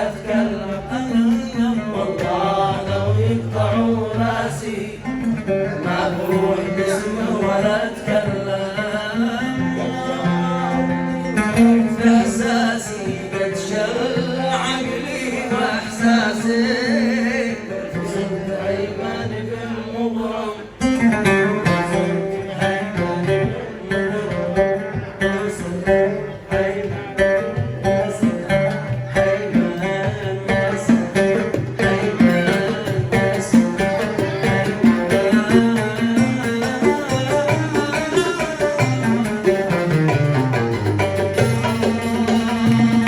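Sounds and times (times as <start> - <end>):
plucked string instrument: 0.0 - 43.0.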